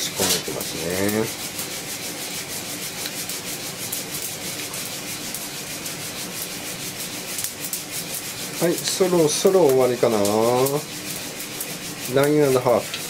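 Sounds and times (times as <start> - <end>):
coffee beans rattling in roaster: 0.0 - 13.0.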